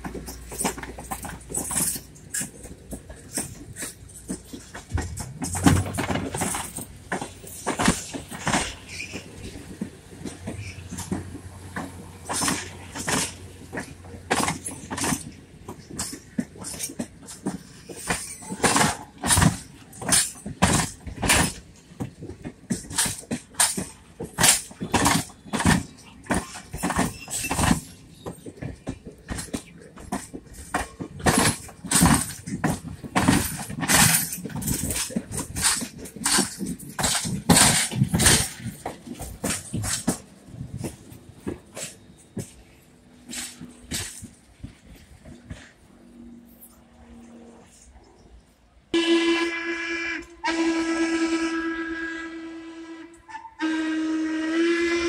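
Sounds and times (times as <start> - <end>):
train wheels clacking over rail joint: 0.0 - 47.9.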